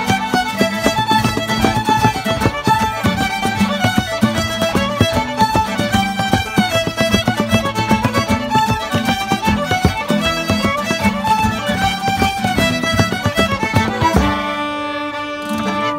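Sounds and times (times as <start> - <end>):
acoustic guitar strumming: 0.0 - 15.9
fiddles playing melody: 0.0 - 15.9.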